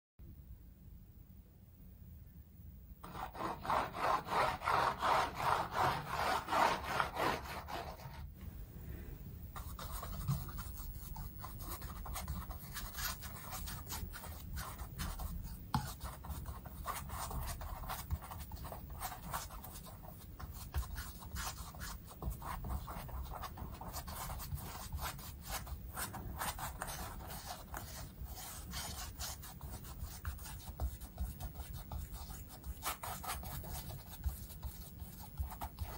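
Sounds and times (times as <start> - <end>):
paintbrush scrubbing on canvas: 3.0 - 8.3, 9.6 - 35.9.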